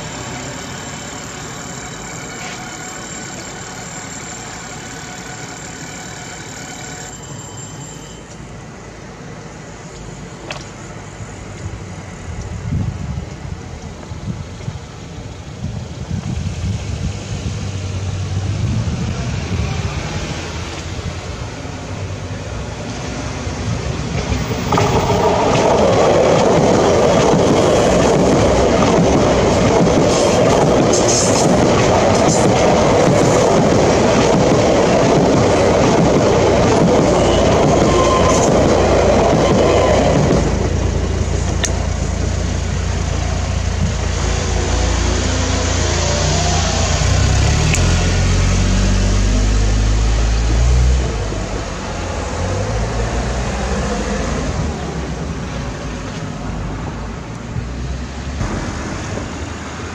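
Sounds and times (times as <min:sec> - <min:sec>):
train wheels rumbling on rails: 0:00.0 - 0:59.9
car engines idling and revving: 0:08.3 - 0:59.9.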